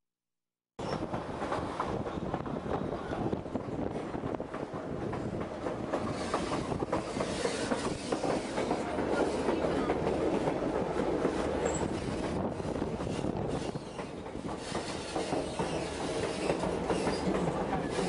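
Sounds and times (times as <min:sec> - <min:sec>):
rail clickety-clack: 0:00.8 - 0:18.0
train wheels rumbling: 0:00.8 - 0:18.0.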